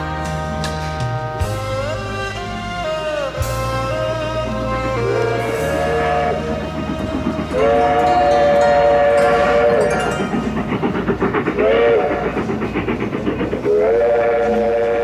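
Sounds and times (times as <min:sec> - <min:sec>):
steam train whistle: 0:00.0 - 0:10.9, 0:11.5 - 0:12.9, 0:13.6 - 0:15.0
rhythmic chugging clatter: 0:00.0 - 0:15.0.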